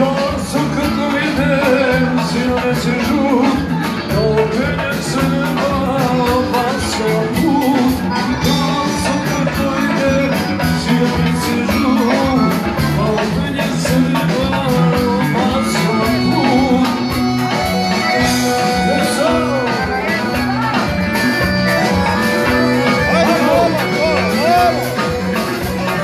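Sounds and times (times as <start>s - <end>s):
folk band with singer over speakers: 0.0s - 26.0s.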